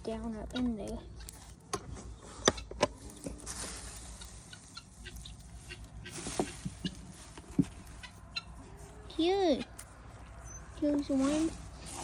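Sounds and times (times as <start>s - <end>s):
rustling: 1.2s - 12.0s.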